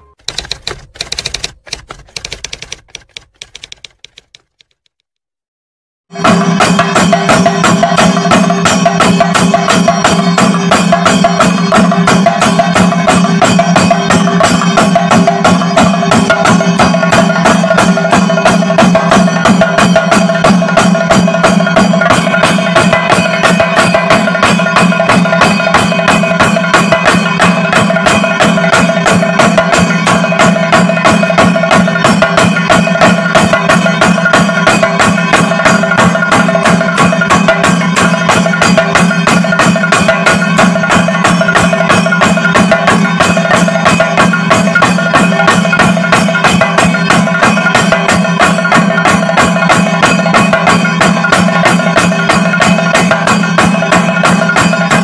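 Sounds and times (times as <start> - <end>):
drum ensemble rapid strokes: 6.1 - 55.0.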